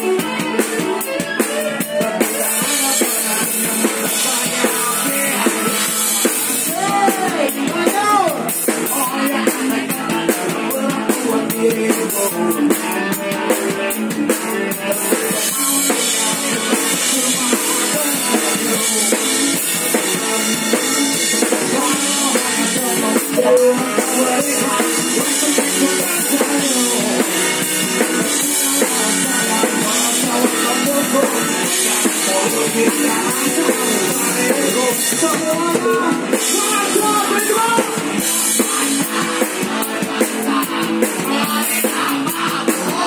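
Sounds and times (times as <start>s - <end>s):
drum kit snare bass drum cymbals: 0.0s - 43.0s
live band playing: 0.0s - 43.0s.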